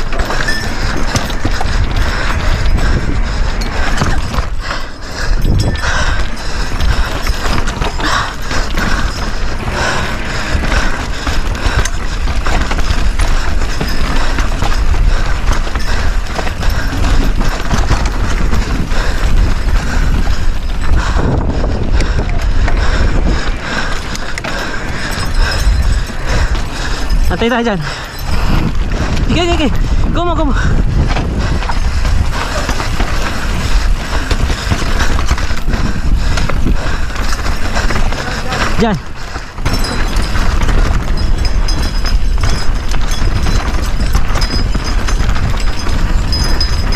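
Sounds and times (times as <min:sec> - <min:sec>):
bike tyres and frame rattling: 0:00.0 - 0:46.9
wind rumble on microphone: 0:00.0 - 0:46.9.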